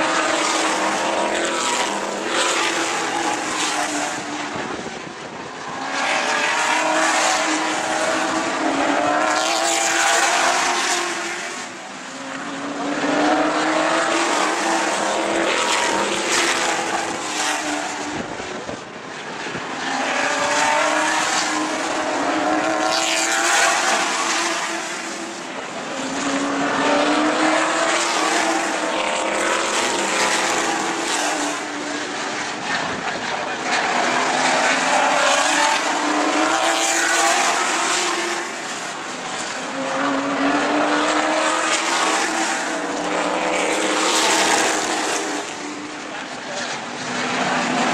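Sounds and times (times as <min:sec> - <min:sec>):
race car engines passing: 0:00.0 - 0:47.9.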